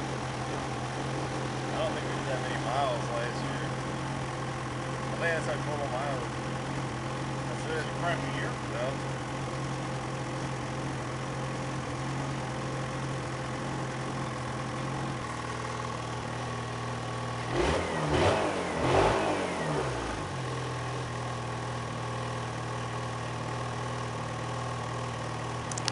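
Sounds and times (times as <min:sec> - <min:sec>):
snowmobile engine idling and revving: 0:00.0 - 0:25.9.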